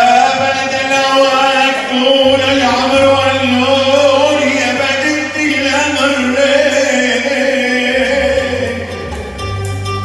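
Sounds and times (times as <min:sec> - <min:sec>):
man singing through microphone: 0:00.0 - 0:09.2
electronic keyboard accompaniment: 0:00.0 - 0:10.0.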